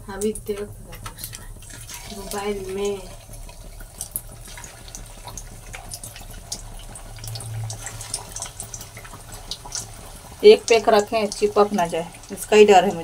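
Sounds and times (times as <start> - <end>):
hot oil sizzling: 0.0 - 13.0
low steady hum: 0.0 - 13.0.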